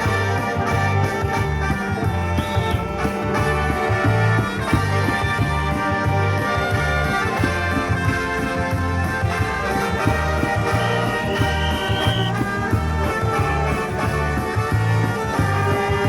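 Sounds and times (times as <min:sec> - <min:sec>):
brass instruments playing tune: 0:00.0 - 0:16.0
steady drum beat: 0:00.0 - 0:16.0.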